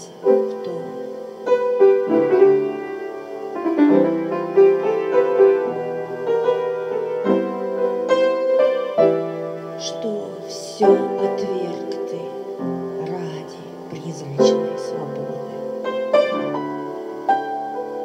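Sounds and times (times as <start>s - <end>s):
gentle piano music: 0.0s - 18.0s.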